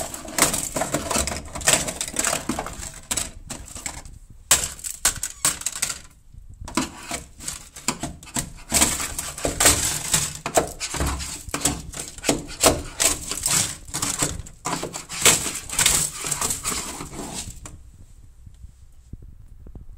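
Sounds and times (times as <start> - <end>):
pellets clattering on sheet metal: 0.0 - 17.7.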